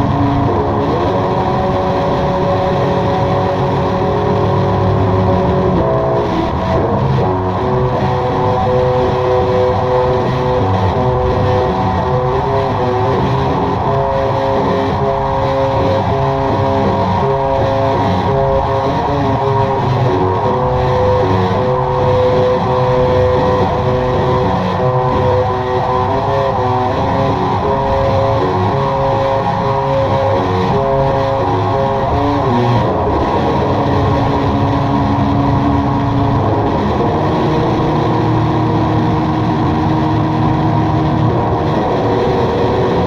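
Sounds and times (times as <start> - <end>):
droning guitar tones: 0.0 - 43.0.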